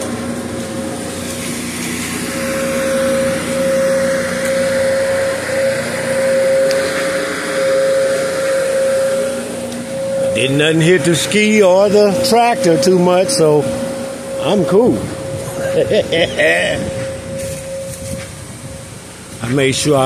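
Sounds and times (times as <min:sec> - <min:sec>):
machine hum with high whine: 0:00.0 - 0:20.0
rushing noise: 0:00.0 - 0:20.0.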